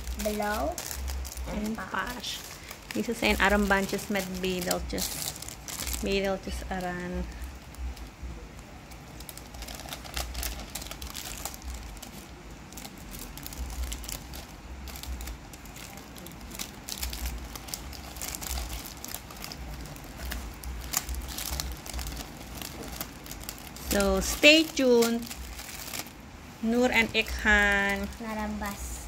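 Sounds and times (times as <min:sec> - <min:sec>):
plastic bags crinkling: 0:00.0 - 0:28.8.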